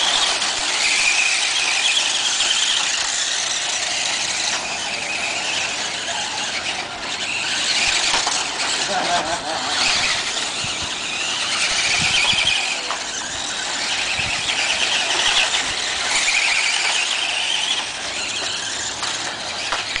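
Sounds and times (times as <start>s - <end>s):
model buggy motors whining: 0.0s - 20.0s.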